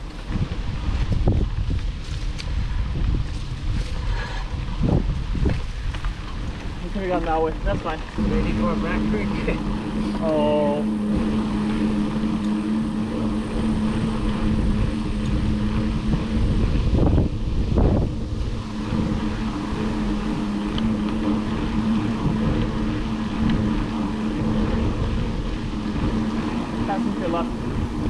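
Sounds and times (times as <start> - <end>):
bike tyres rumbling on dirt: 0.0 - 28.0
steady low hum: 0.0 - 28.0
wind rushing past microphone: 0.0 - 28.0.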